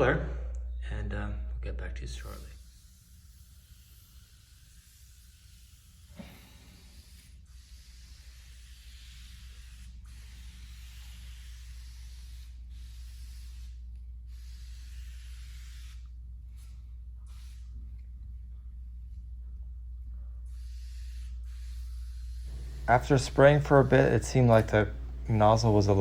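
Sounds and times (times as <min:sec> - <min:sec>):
aerosol can spraying hiss: 0:02.3 - 0:17.8, 0:20.5 - 0:25.8.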